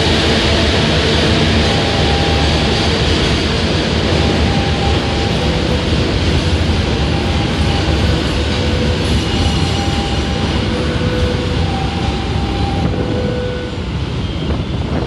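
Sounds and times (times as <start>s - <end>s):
steel wheels rumbling on rail: 0.0s - 15.0s
wheels squealing: 0.0s - 15.0s.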